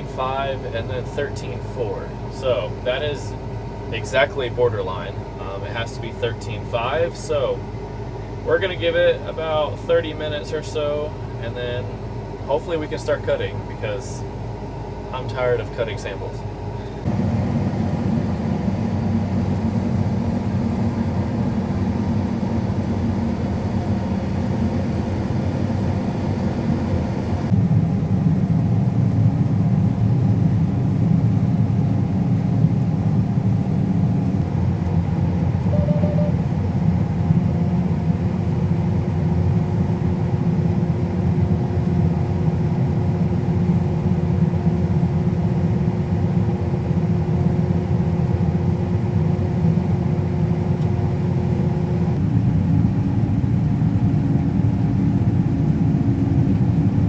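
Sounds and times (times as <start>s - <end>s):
machinery engine droning: 0.0s - 57.0s.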